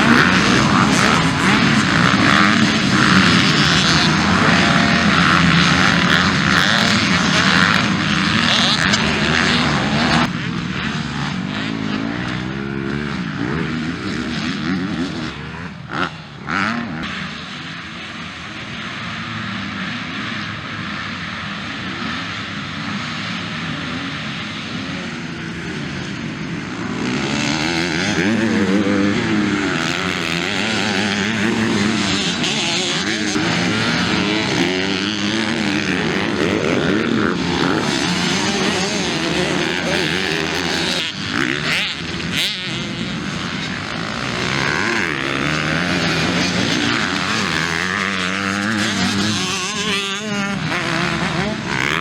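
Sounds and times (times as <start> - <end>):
motocross bike engines revving: 0.0 - 52.0.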